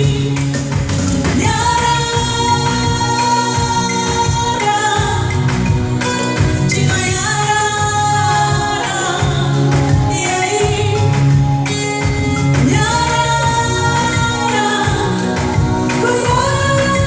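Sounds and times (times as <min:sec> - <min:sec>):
gospel band music: 0:00.0 - 0:17.0
woman singing: 0:00.0 - 0:17.0.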